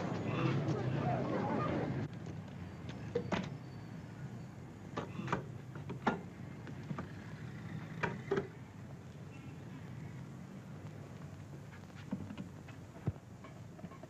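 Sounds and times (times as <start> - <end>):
film soundtrack hiss: 0.0 - 14.0.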